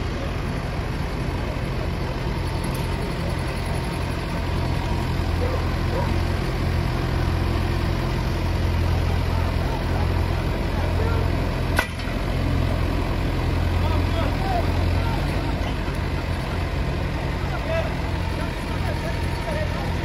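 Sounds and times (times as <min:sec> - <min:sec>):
tractor diesel engines under load: 0:00.0 - 0:20.0.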